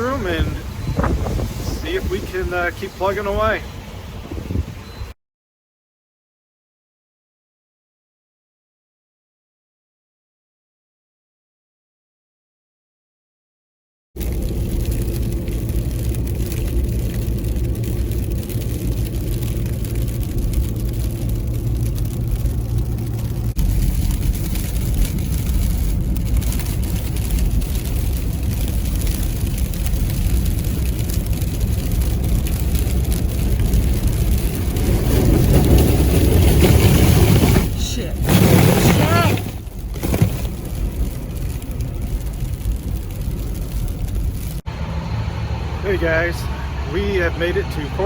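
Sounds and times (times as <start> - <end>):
vehicle engine hum: 0.0 - 5.1, 14.2 - 48.0
road noise: 0.0 - 5.2, 14.2 - 48.0.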